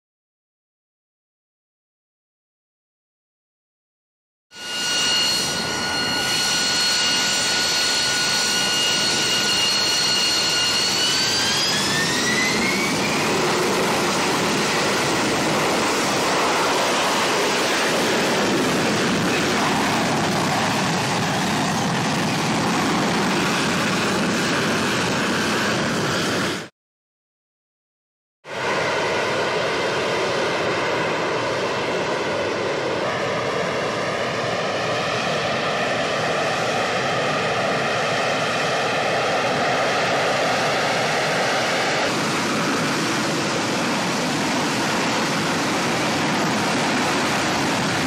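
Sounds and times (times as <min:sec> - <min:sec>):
jet engine roar with high whine: 0:04.5 - 0:26.7, 0:28.5 - 0:48.0.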